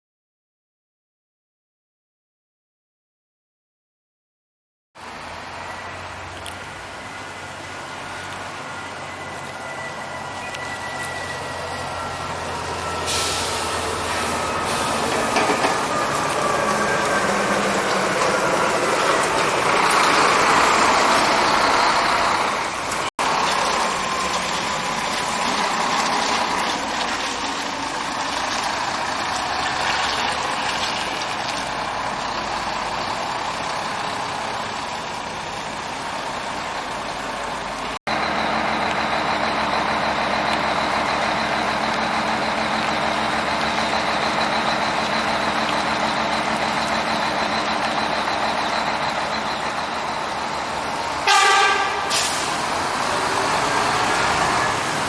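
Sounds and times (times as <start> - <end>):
coach diesel engine running: 5.1 - 55.0.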